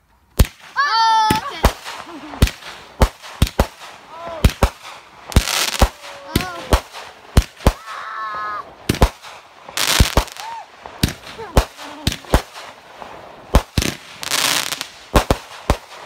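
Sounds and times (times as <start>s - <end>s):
fireworks bangs: 0.4s - 16.0s.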